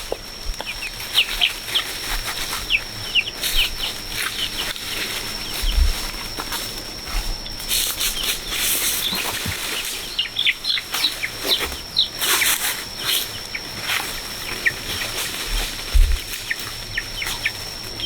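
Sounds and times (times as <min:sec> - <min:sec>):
birds chirping: 0:00.0 - 0:18.0
rustling: 0:00.0 - 0:18.0.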